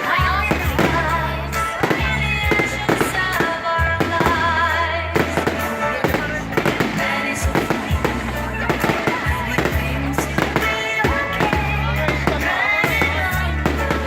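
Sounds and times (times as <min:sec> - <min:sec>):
fireworks bangs and pops: 0:00.0 - 0:14.0
music with bass line: 0:00.0 - 0:14.0.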